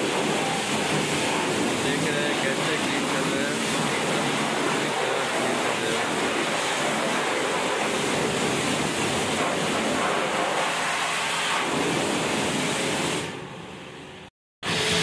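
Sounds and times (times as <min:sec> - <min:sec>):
hose water jet hissing: 0:00.0 - 0:13.4.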